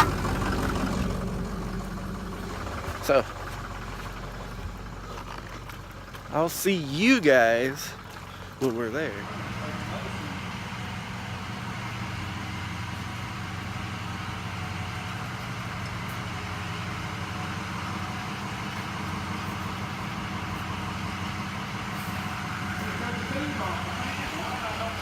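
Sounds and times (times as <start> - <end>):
road or wind noise: 0.0 - 6.7, 7.3 - 25.0
vehicle engine humming: 0.0 - 25.0.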